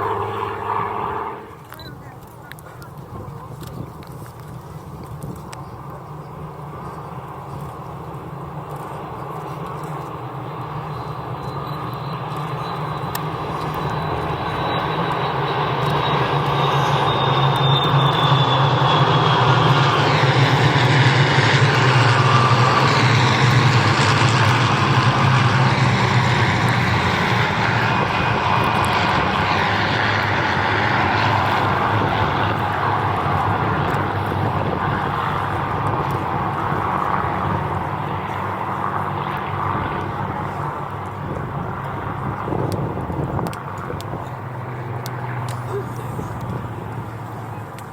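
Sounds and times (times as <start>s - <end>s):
propeller aircraft flying past: 0.0s - 47.9s.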